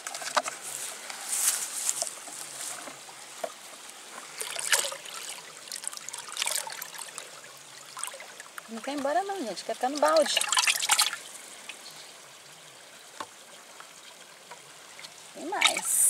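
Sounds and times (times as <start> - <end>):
water pouring and splashing: 0.0 - 16.0
water trickling: 1.8 - 16.0.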